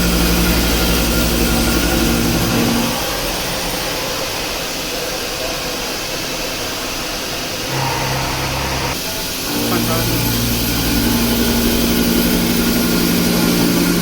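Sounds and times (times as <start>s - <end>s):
machine hissing: 0.0s - 14.0s.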